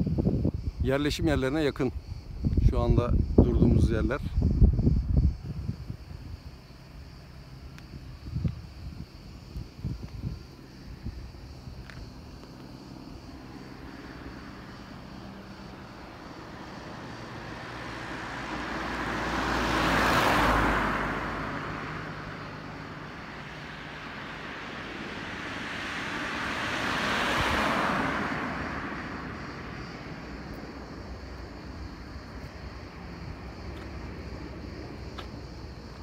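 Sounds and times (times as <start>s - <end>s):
vehicles passing by: 0.5s - 36.0s.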